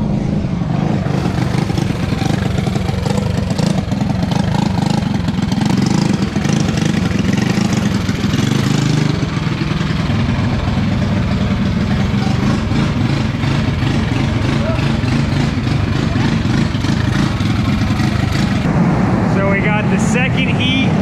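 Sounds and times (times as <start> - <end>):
kart engines racing: 0.0 - 21.0.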